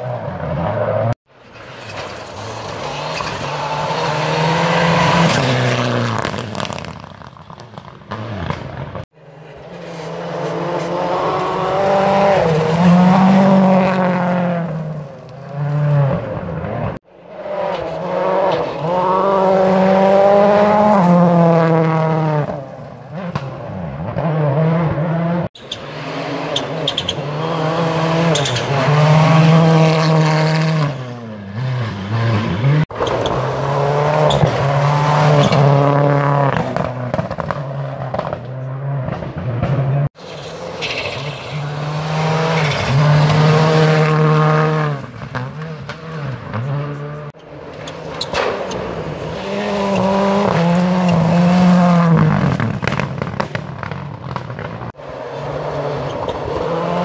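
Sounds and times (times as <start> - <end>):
rally cars passing at speed: 0.0 - 57.0.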